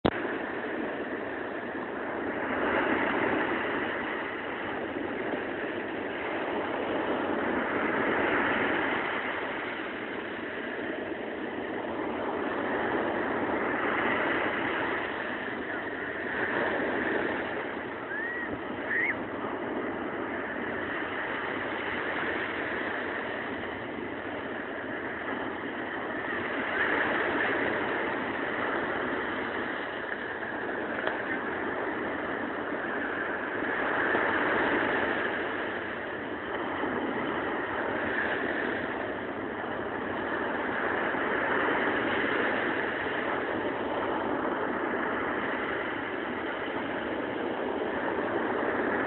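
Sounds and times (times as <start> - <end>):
small waves breaking on sand: 0.0 - 49.0.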